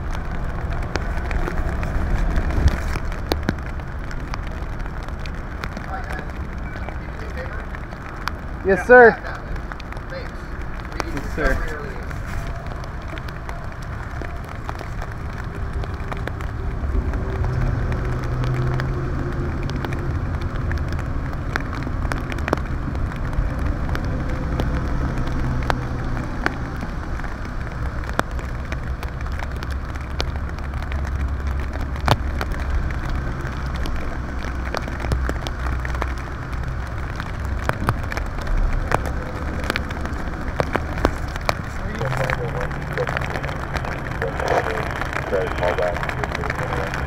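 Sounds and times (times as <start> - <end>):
drops ticking close by: 0.0 - 47.0
low vehicle engine rumble: 0.0 - 47.0
steady rain falling: 0.0 - 47.0.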